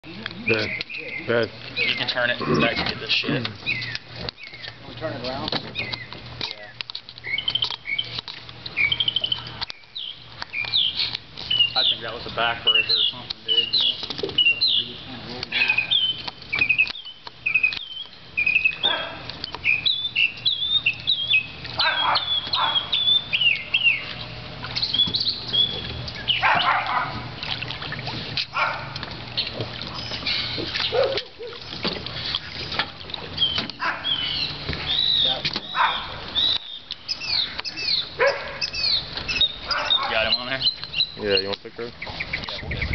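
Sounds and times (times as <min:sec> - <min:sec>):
birds chirping: 0:00.0 - 0:42.9
fish thrashing in water: 0:00.0 - 0:42.9.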